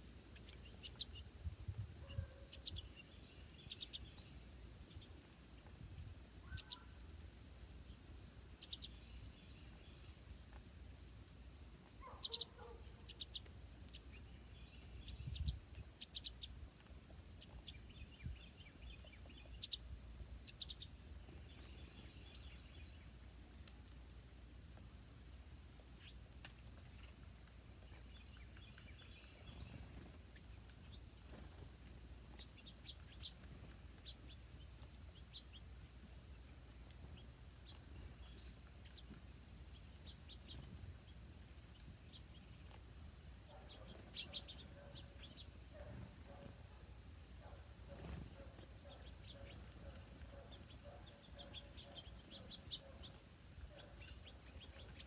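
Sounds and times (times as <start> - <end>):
low steady background hum: 0.0 - 55.0
small birds chirping: 0.0 - 55.0.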